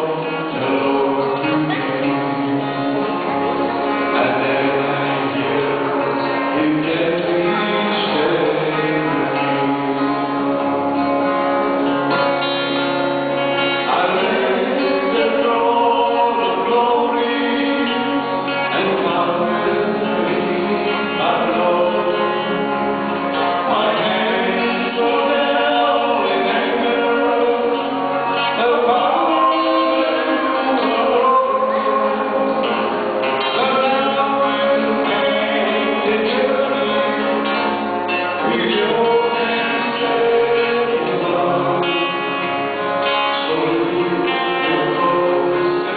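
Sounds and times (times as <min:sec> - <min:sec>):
guitar accompaniment: 0:00.0 - 0:45.9
two men singing gospel: 0:00.0 - 0:45.9.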